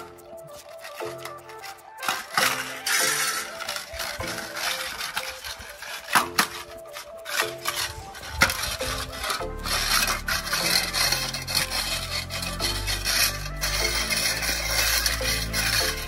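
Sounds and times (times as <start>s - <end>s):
background music: 0.0s - 16.0s
puppy muzzle scraping metal bowl: 0.1s - 16.0s.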